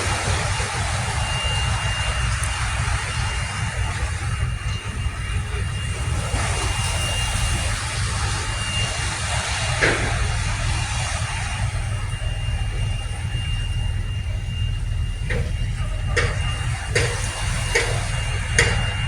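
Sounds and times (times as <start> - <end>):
road and engine hiss: 0.0 - 19.0
thin high whine: 0.0 - 19.0
vehicle low rumble: 0.0 - 19.0.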